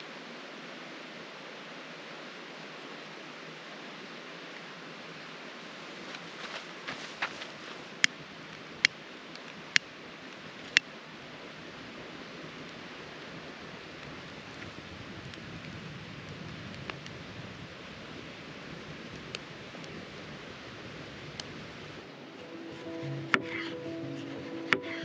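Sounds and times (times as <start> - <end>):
campfire crackling: 4.4 - 25.0.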